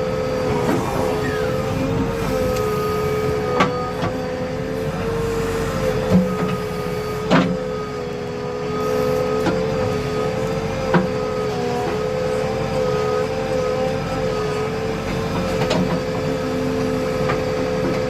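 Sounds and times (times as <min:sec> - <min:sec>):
diesel engine running with whine: 0:00.0 - 0:18.0.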